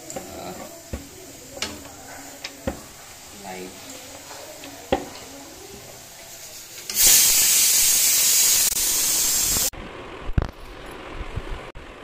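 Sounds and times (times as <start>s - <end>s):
hot oil hissing while deep-frying: 0.0s - 9.7s.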